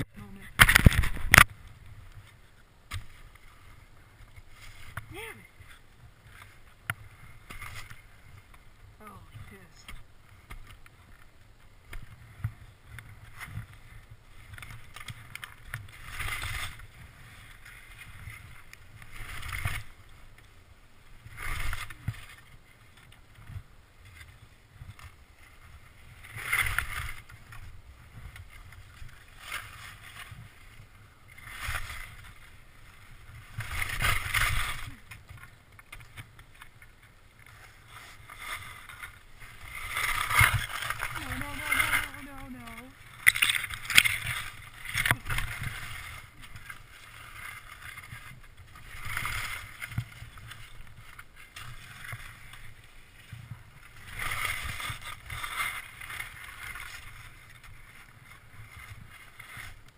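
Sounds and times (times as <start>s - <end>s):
skis swishing over snow: 0.3s - 59.9s.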